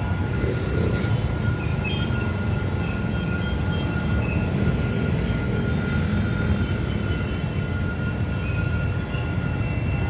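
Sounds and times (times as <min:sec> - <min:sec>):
thin steady whine: 0:00.0 - 0:10.0.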